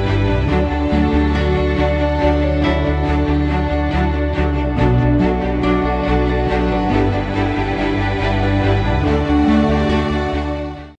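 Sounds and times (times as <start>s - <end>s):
slow instrumental music: 0.0s - 10.9s.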